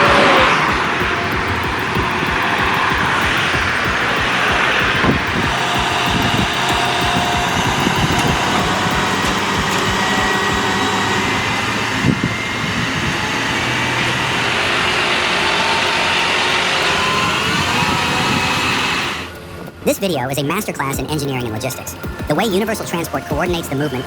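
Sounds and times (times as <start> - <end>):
faint whining tones: 0.0 - 24.0
heavy truck engines running: 0.0 - 24.0.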